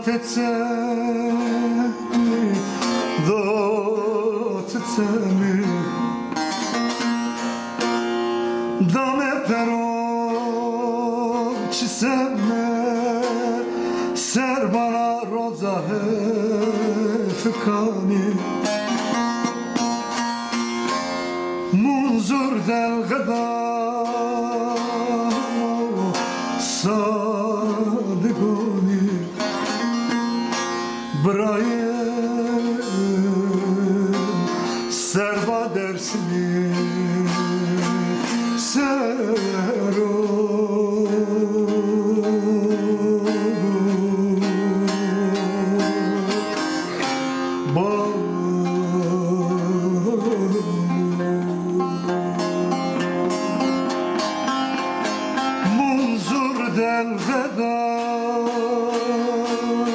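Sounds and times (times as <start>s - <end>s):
man singing folk song: 0.0s - 59.9s
plucked string instrument: 0.0s - 59.9s.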